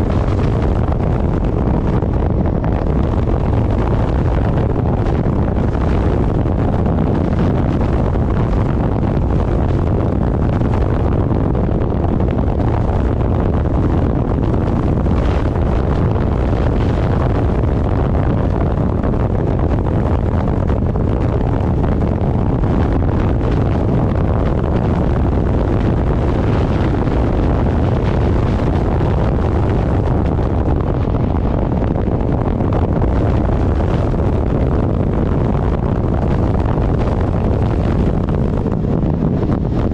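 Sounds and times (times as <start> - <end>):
vehicle running noise: 0.0 - 39.9
wind buffeting microphone: 0.0 - 39.9.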